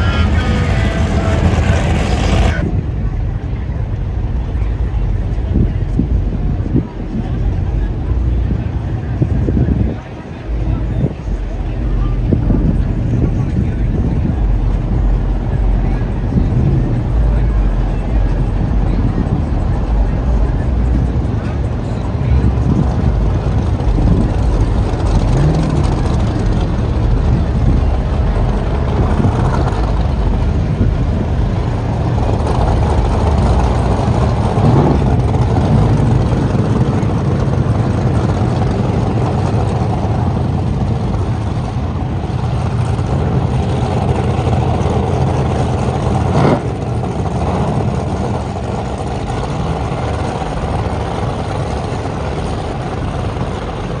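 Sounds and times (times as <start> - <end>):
large engines rumbling: 0.0 - 54.0.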